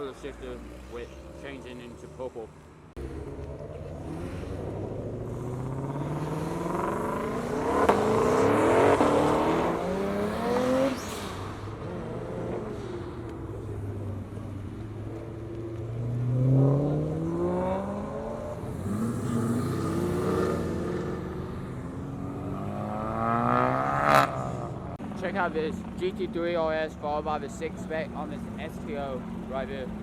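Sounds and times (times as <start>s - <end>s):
car engines accelerating: 0.0s - 30.0s.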